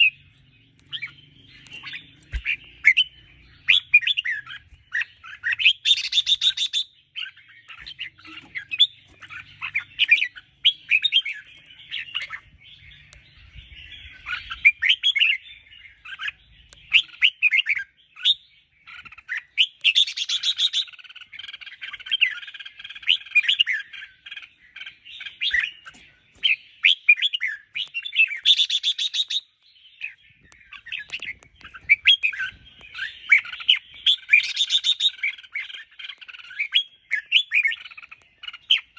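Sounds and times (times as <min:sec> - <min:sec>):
bird singing chirps and whistles: 0:00.0 - 0:38.9
rapid harsh bird chatter: 0:00.0 - 0:38.9.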